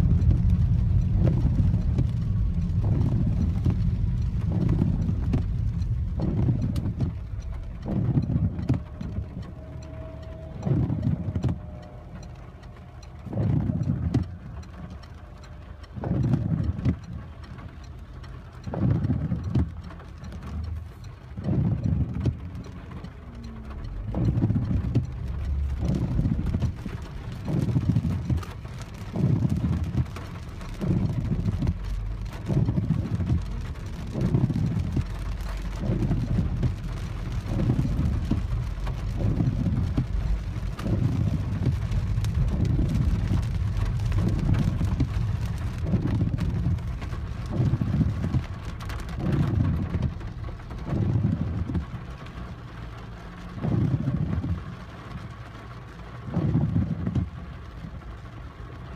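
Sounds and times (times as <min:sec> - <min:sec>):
heavy rain on a car: 0:00.0 - 0:58.9
windscreen wipers: 0:00.0 - 0:58.9.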